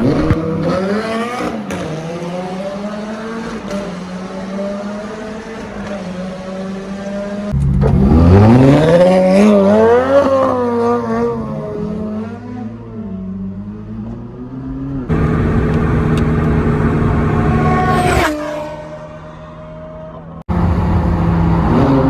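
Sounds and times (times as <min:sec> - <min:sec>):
car engine revving: 0:00.0 - 0:12.4, 0:15.0 - 0:22.0.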